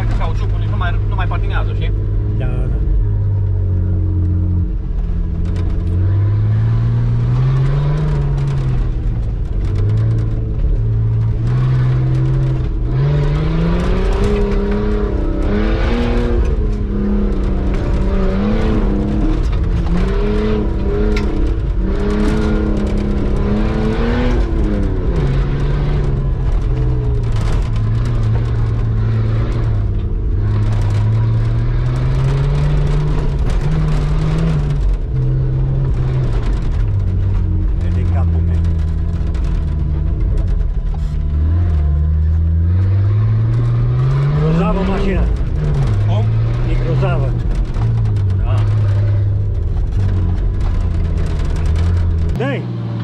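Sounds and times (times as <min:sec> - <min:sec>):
car engine revving in cabin: 0:00.0 - 0:53.0
knocks and rattles: 0:05.0 - 0:52.6.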